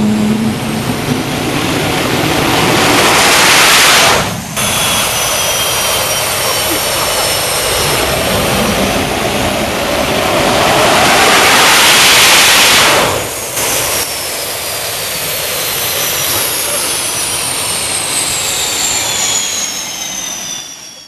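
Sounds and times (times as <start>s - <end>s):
high engine whine: 0.0s - 21.0s
turbojet engine roaring: 0.0s - 21.0s.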